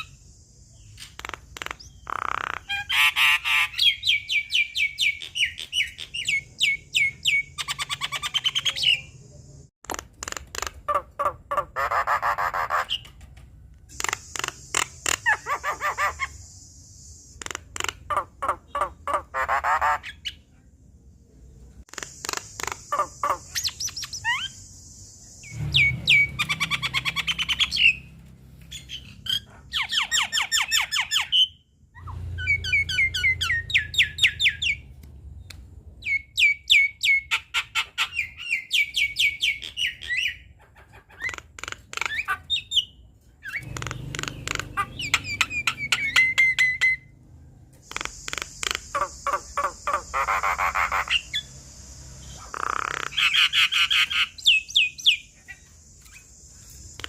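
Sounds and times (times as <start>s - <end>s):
myna bird singing: 0.0s - 20.5s, 21.1s - 57.0s.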